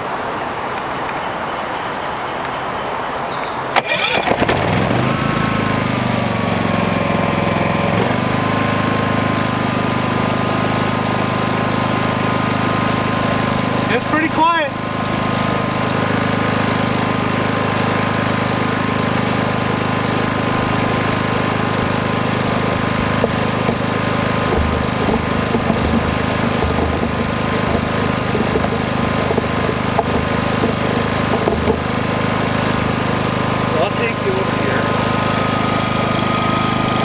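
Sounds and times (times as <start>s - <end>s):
generator humming: 0.0s - 37.0s.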